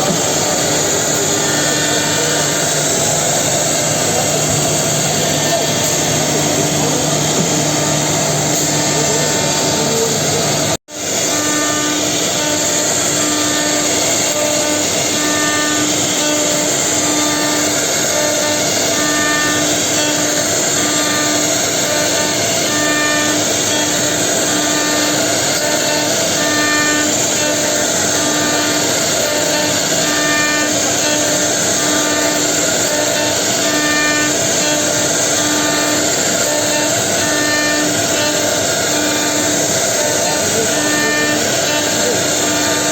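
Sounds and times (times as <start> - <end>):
router spindles milling wood: 0.0 - 42.9.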